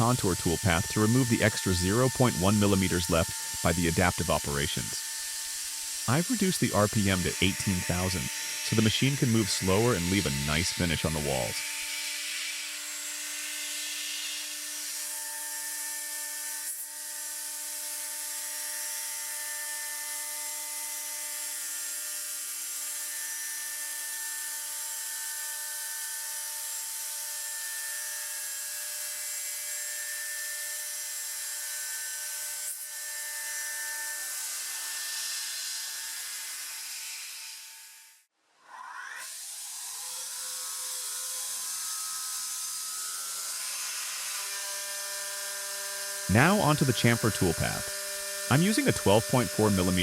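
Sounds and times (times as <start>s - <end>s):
router spindle whine: 0.0s - 36.2s, 39.1s - 50.0s.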